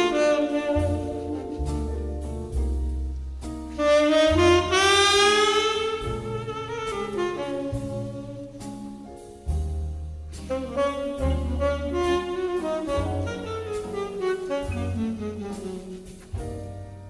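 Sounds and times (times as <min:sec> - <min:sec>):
double bass: 0:00.0 - 0:17.0
jazz saxophone melody: 0:00.0 - 0:17.0.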